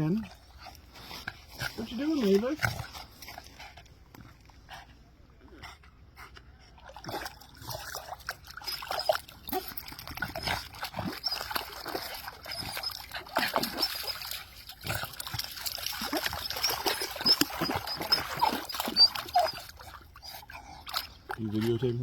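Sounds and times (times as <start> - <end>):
water splashing from swimming dog: 0.0 - 4.4, 6.3 - 22.0.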